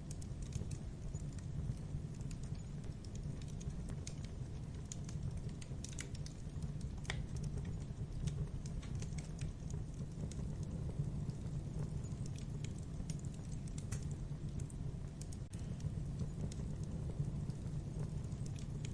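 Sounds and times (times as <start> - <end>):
logs crackling in fireplace: 0.0 - 18.9.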